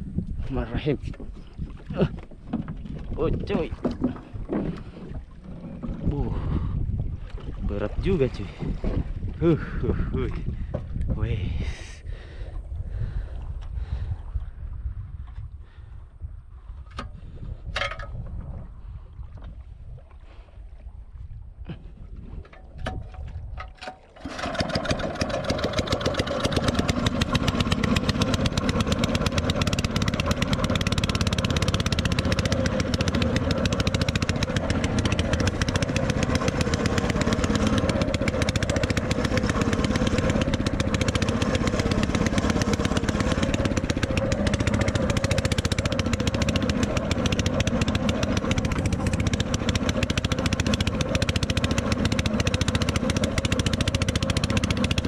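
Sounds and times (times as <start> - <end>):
longtail boat engine running hard: 0.5 - 14.3, 21.7 - 55.0.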